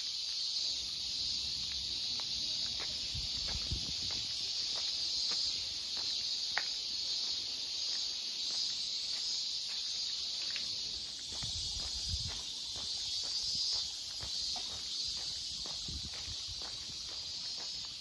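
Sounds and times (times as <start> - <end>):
cicadas chorus: 0.0 - 18.0
footsteps on path: 0.2 - 18.0.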